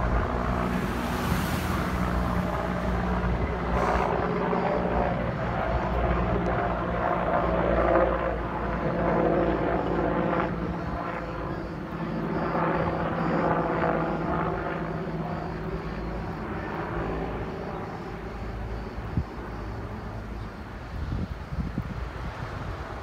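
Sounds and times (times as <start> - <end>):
helicopter engine and rotor drone: 0.0 - 23.0.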